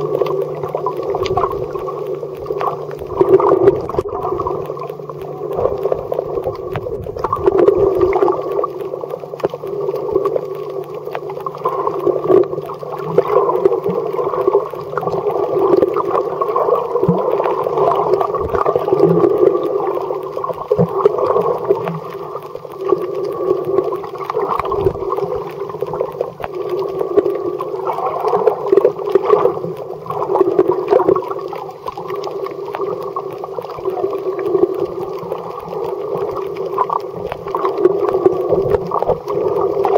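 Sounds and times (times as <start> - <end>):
muffled underwater churning water: 0.0 - 39.9.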